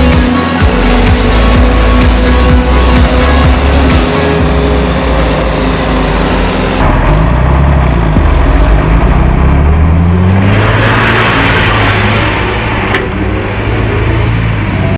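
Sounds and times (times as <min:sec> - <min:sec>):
engine and tyre rush passing: 0:00.0 - 0:14.9
harvester and tractor running: 0:00.0 - 0:14.9
tractor engine accelerating: 0:00.0 - 0:14.9.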